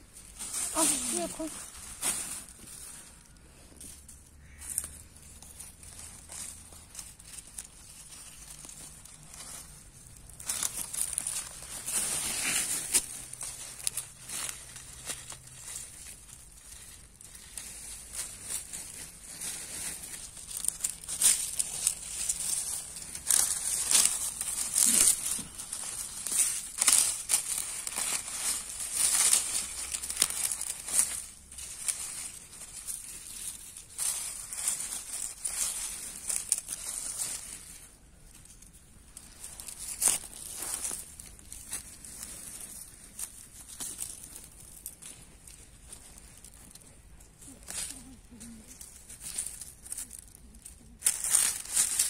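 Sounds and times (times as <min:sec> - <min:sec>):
leaves rustling and tearing: 0:00.0 - 0:52.0
stems snapping: 0:04.4 - 0:52.0.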